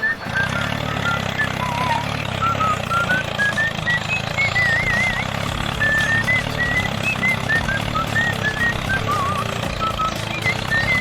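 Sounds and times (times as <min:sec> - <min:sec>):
toy tractor motor humming: 0:00.0 - 0:11.0.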